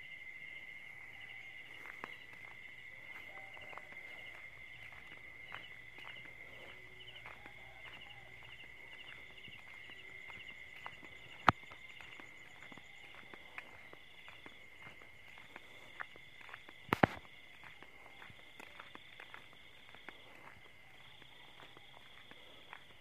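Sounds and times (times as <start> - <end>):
crickets and insects trilling: 0.0 - 23.0
soft footsteps: 1.2 - 23.0.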